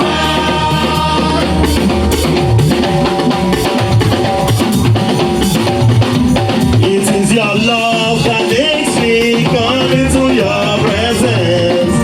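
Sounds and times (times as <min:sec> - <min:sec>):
bass: 0:00.0 - 0:12.0
drum kit: 0:00.0 - 0:12.0
guitar: 0:00.0 - 0:12.0.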